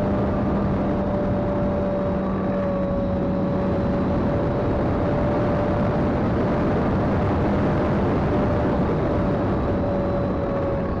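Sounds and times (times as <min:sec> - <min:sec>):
rushing wind noise: 0:00.0 - 0:11.0.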